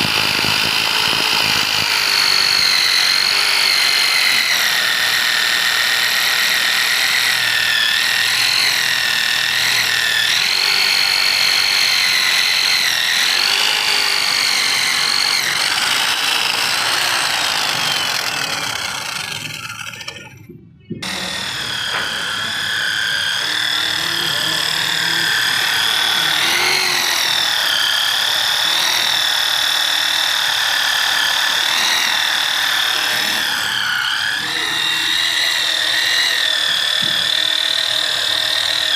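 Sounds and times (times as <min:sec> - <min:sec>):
electric drill boring metal: 0:00.0 - 0:38.9.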